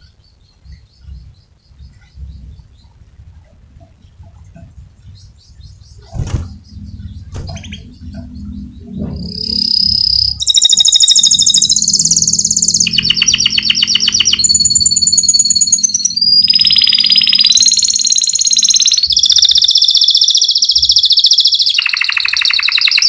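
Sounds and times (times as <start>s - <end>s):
canary singing in trills: 0.0s - 23.0s.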